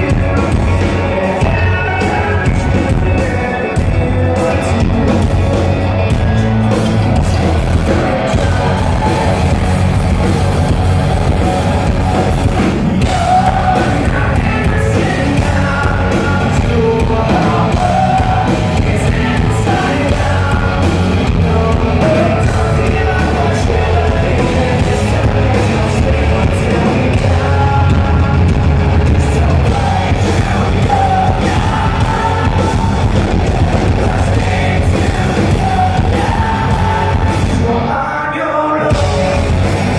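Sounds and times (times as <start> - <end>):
bass guitar: 0.0 - 39.9
drums: 0.0 - 39.9
electric guitar: 0.0 - 39.9
lead vocal singing: 0.0 - 39.9.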